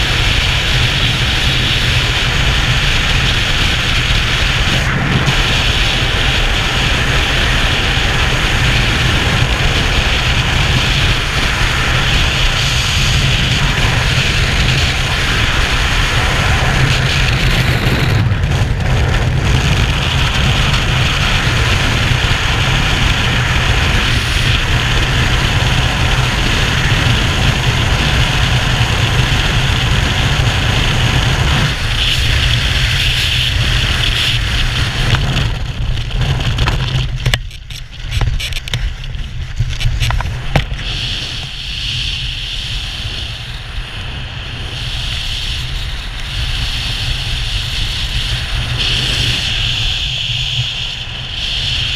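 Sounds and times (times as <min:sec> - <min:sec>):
wind rushing over microphone: 0:00.0 - 0:51.9.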